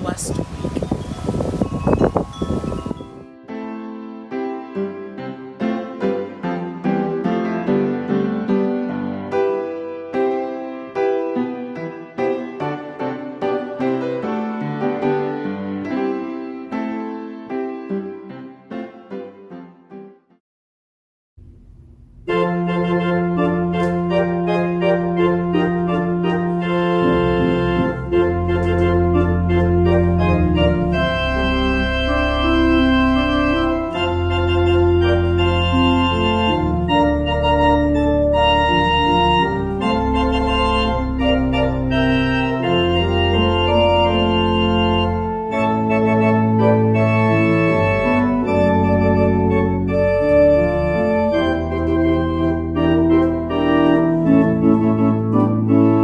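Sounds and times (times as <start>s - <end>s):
organ music: 0.0s - 20.1s, 22.2s - 56.0s.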